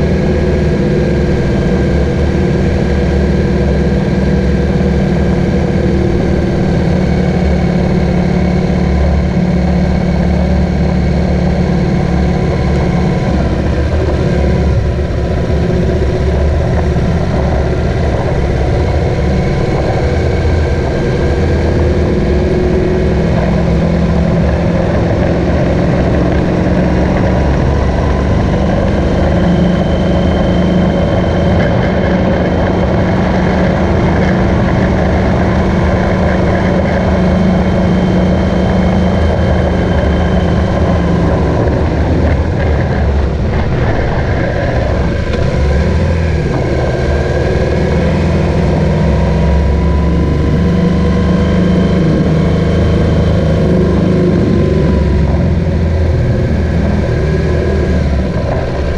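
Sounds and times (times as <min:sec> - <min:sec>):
motorcycle engine running: 0:00.0 - 0:58.9
road and wind noise: 0:00.0 - 0:58.9.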